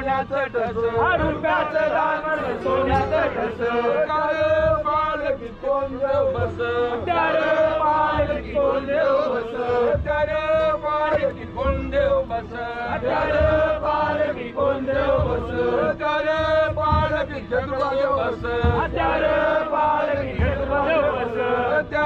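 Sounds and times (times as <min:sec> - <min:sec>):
men chanting: 0:00.0 - 0:22.0.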